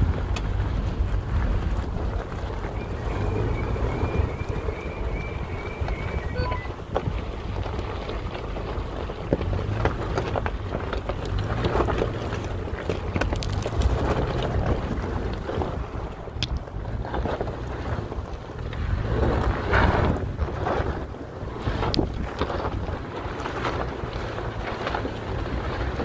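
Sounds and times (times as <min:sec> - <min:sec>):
engine and drivetrain rumble: 0:00.0 - 0:26.0
stones clicking under tyres: 0:00.0 - 0:26.0
wind buffeting microphone: 0:00.0 - 0:26.0.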